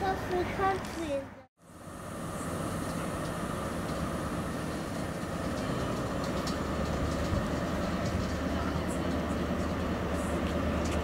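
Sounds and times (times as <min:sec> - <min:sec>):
diesel train engine rumble: 0:00.0 - 0:11.0.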